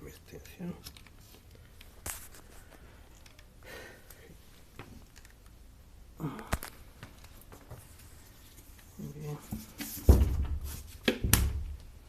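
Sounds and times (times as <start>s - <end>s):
cord rustling: 0.0s - 11.1s.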